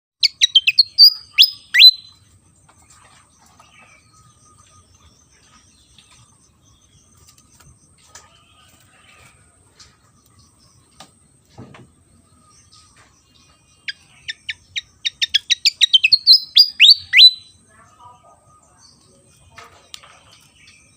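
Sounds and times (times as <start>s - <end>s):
faint bird chirps: 0.2s - 20.9s.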